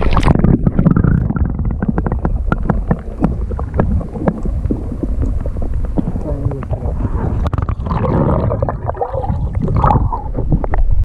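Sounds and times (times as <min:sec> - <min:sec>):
microphone handling noise: 0:00.0 - 0:11.0.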